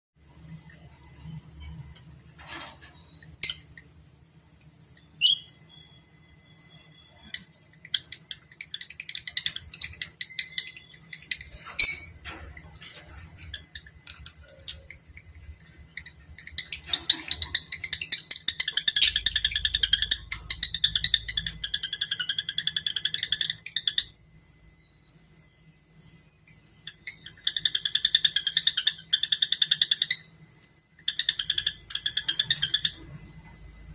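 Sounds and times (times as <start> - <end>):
lovebirds chirping and chattering: 3.0 - 33.9.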